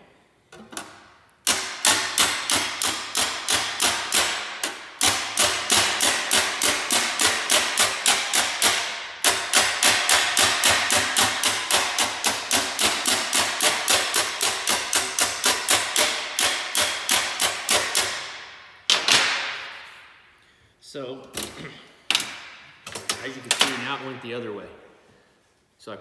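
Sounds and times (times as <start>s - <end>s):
hammer striking sheet metal: 0.8s - 20.2s, 22.1s - 24.2s.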